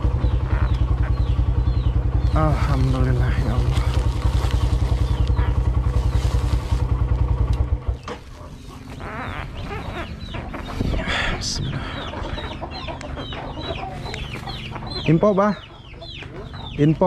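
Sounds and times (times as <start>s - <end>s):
chickens clucking: 0.0s - 17.0s
motorcycle engine idling: 0.0s - 17.0s.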